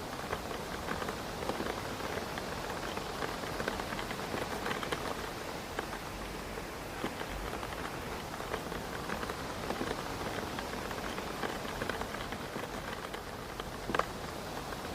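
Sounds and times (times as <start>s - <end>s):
rain pattering on window: 0.0s - 14.9s.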